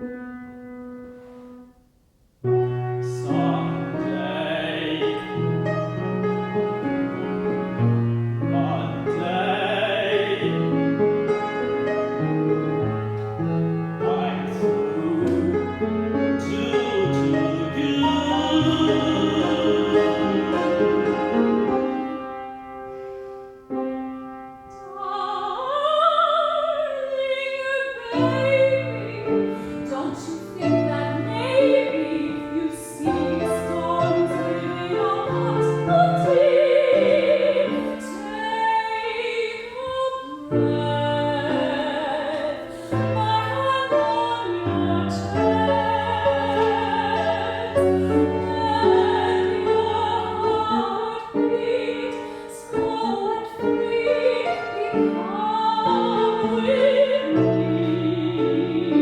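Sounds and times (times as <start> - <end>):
piano accompaniment: 0.0 - 59.0
operatic singing with vibrato: 2.7 - 22.6, 24.5 - 59.0.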